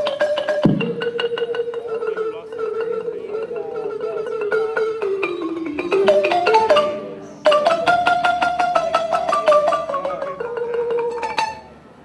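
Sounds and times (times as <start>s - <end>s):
rapid struck percussion: 0.0s - 11.8s
held melody: 0.0s - 12.0s.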